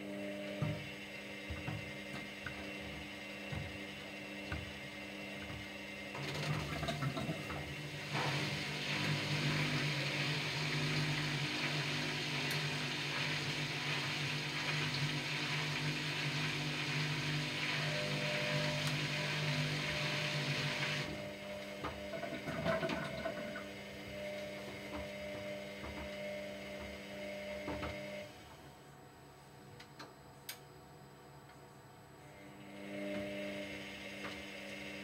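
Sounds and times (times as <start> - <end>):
washer-dryer drum motor: 0.0 - 35.0.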